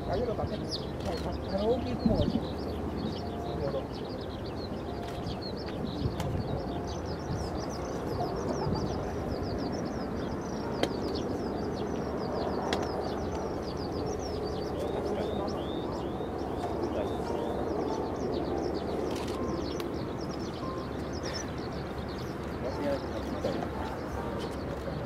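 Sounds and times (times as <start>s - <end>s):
bird chirping: 0.0s - 25.0s
low rumble of airport noise: 0.0s - 25.0s.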